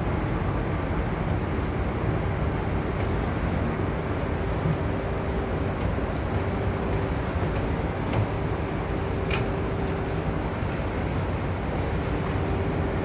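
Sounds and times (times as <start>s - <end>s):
churning water: 0.0s - 13.0s
faint constant hum: 0.0s - 13.0s
ship engines low rumble: 0.0s - 13.0s.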